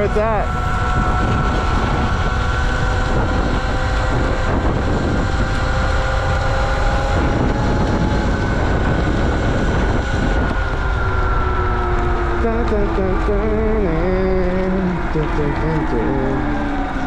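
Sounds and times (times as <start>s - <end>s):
electric motor whining: 0.0s - 17.0s
wind rushing on microphone: 0.0s - 17.0s.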